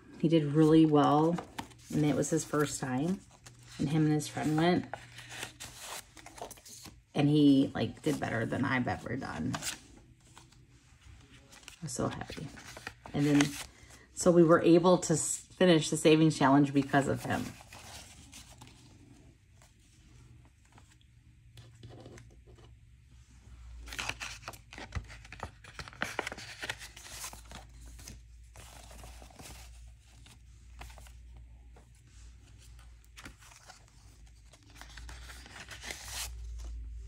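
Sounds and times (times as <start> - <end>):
paper and banknotes rustling: 0.4 - 7.0, 7.6 - 14.1, 16.6 - 22.8, 23.7 - 37.0.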